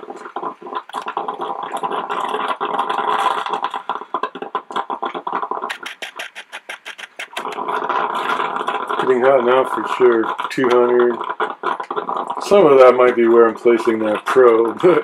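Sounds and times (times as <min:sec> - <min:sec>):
coffee maker gurgling and popping: 0:00.0 - 0:15.0.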